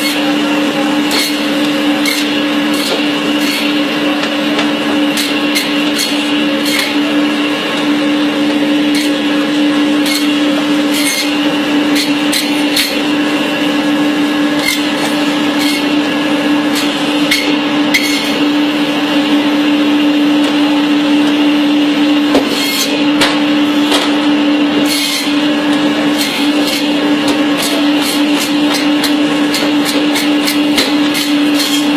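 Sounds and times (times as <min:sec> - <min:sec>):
bone-cutting machine motor hum: 0:00.0 - 0:31.9.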